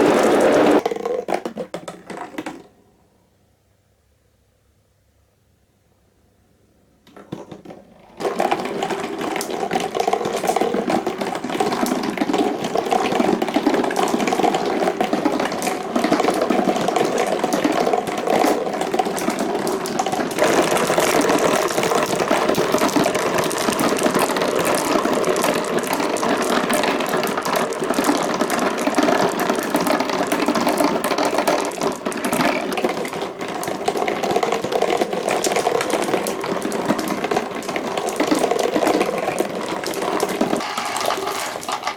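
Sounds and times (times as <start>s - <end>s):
glass marbles rolling and clacking: 0.0s - 2.5s, 8.2s - 41.9s.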